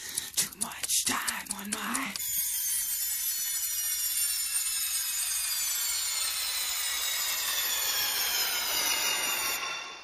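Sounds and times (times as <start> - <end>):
drone propellers whining: 1.7 - 10.0.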